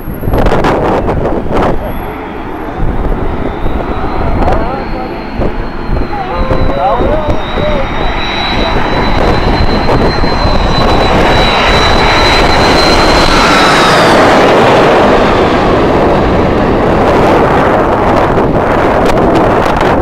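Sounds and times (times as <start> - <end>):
high jet engine whine: 0.0 - 20.0
jet airliner engines rushing: 0.0 - 20.0.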